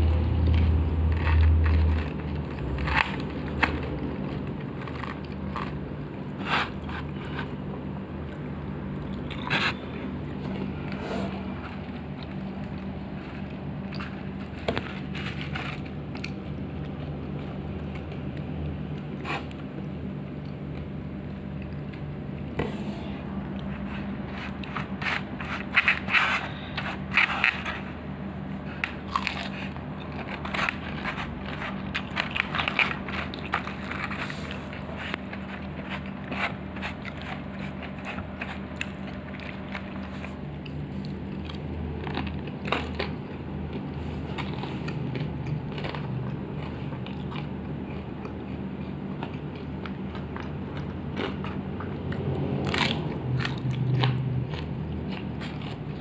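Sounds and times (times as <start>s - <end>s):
crunchy chewing and biting: 0.0s - 22.6s, 23.2s - 56.0s
steady low hum: 0.0s - 56.0s.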